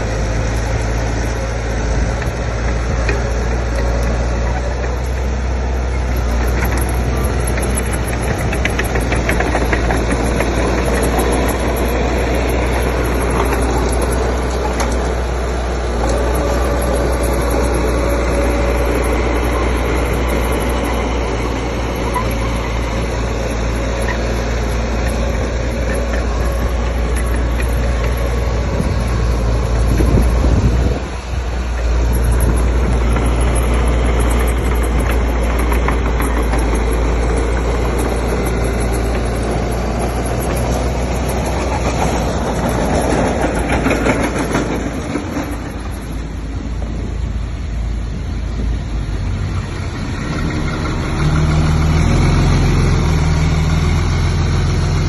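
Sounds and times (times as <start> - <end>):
heavy machinery engine hum: 0.0 - 55.0.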